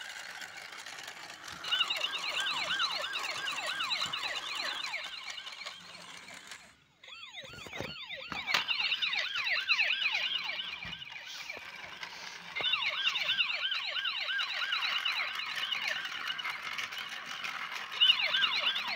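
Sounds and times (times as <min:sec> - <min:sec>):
toy police siren yelping: 0:00.0 - 0:18.9.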